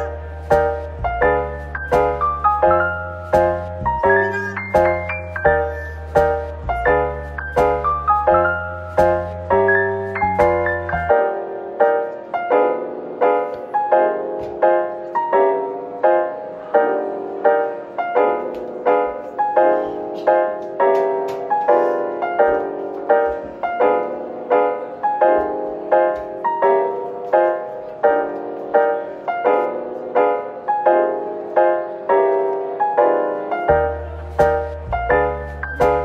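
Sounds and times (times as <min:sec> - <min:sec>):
calm piano melody: 0:00.0 - 0:36.0.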